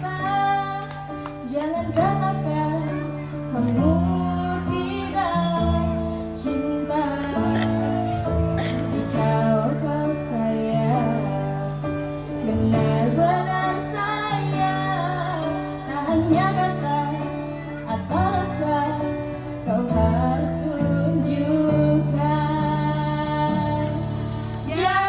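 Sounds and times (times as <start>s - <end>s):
woman singing: 0.0s - 25.0s.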